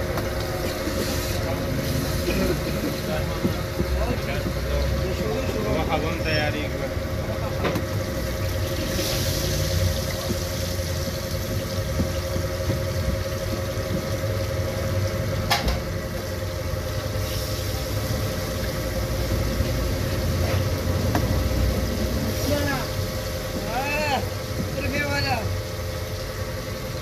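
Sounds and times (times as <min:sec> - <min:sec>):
oil sizzling in a wok: 0:00.0 - 0:06.5, 0:07.2 - 0:27.0
low engine-like rumble: 0:00.0 - 0:27.0
steady hum: 0:00.0 - 0:27.0.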